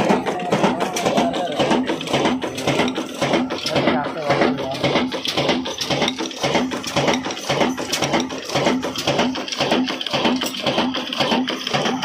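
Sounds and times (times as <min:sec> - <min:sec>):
diesel engine knocking: 0:00.0 - 0:12.0.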